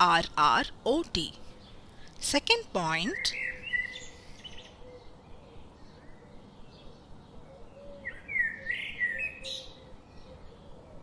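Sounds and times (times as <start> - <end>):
bird chirping: 0.0 - 10.8.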